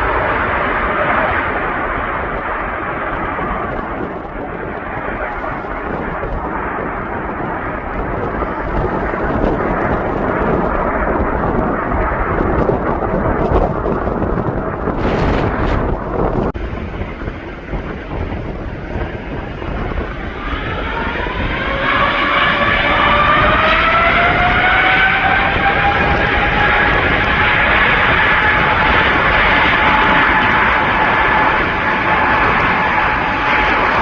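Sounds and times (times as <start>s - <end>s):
airplane engines rumbling: 0.0s - 34.0s
wind buffeting microphone: 0.0s - 34.0s.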